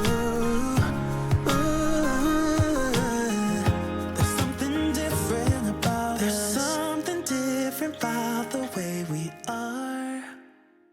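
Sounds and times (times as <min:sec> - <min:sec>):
mellow instrumental pop music: 0:00.0 - 0:10.7.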